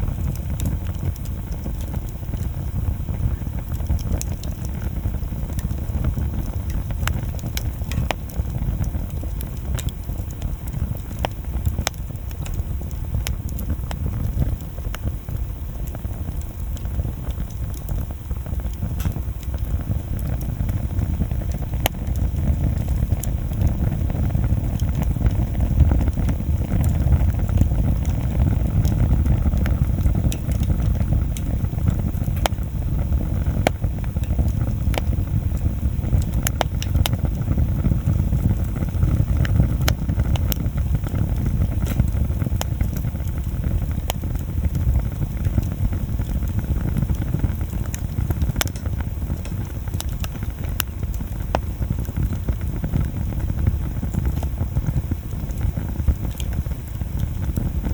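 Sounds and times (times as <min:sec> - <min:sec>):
bonfire crackling: 0:00.0 - 0:57.9.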